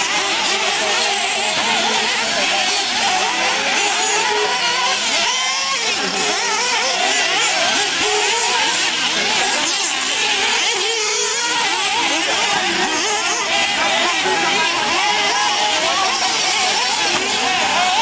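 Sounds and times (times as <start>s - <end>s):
rc buggy engines revving: 0.0s - 18.0s.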